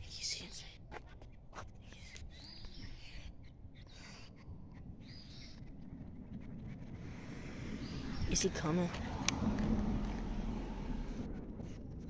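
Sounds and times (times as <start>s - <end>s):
low rumble of wind: 0.0s - 12.0s.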